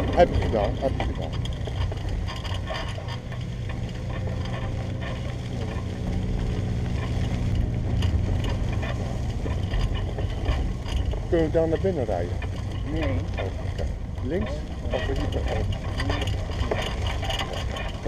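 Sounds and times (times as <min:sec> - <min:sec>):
mechanical rattling and clicking: 0:00.0 - 0:18.0
vehicle rumbling on dirt track: 0:00.0 - 0:18.0.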